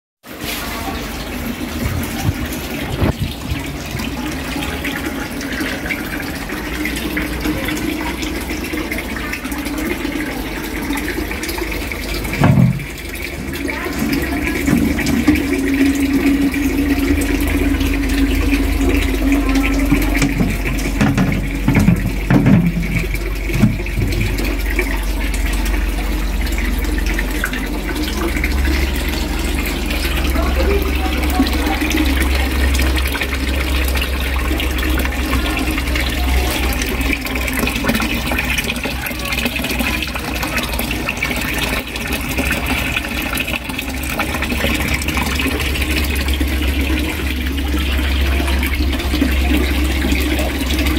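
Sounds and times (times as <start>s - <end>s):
water splashing into pond: 0.2s - 50.9s.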